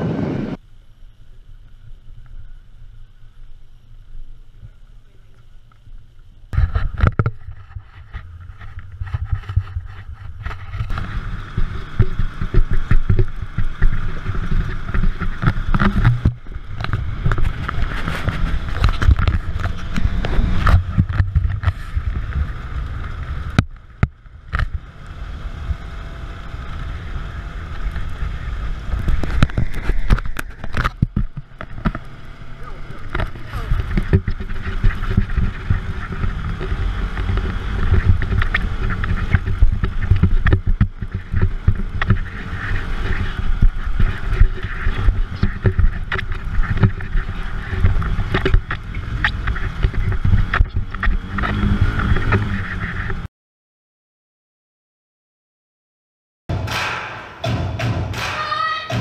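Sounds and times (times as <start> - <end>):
off-road vehicle engine: 0.0 - 53.3
outdoor ambience: 0.0 - 53.3, 56.5 - 59.0.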